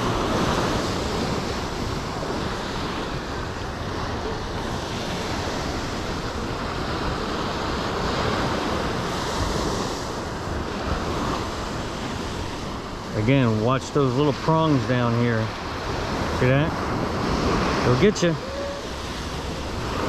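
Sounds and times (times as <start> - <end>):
ocean surf washing on beach: 0.0 - 20.0
wind buffeting microphone: 0.0 - 20.0.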